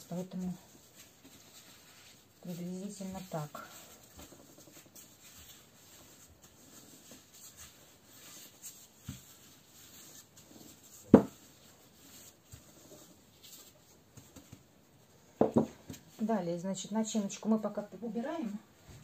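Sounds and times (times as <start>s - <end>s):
rolling pin rubbing and scraping: 0.0s - 16.3s.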